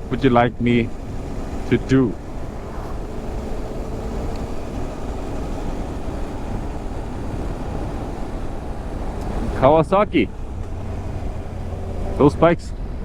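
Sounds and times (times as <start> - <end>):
motorcycle engine drone: 0.0 - 13.0
wind rushing on microphone: 0.0 - 13.0.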